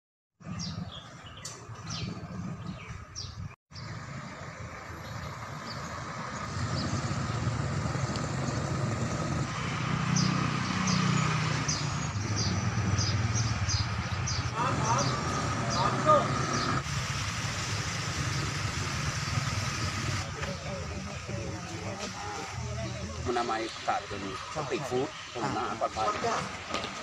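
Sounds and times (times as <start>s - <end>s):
birds chirping: 0.4s - 16.8s, 18.3s - 27.0s
motor traffic rumble: 0.4s - 27.0s.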